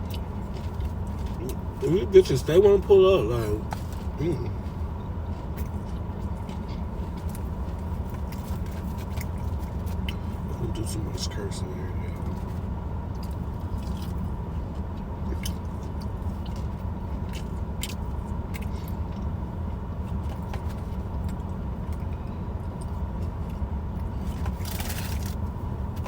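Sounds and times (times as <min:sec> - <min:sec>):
chewing crunchy fried food: 0:00.0 - 0:26.0.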